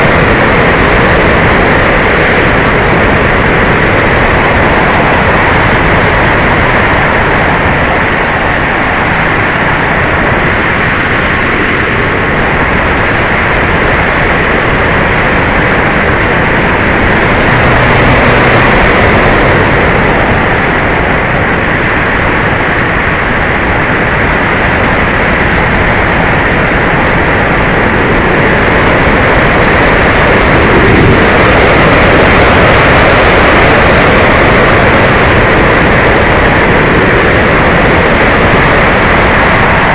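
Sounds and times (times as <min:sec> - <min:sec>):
model plane motor and propeller: 0:00.0 - 0:39.9
wind rushing: 0:00.0 - 0:39.9.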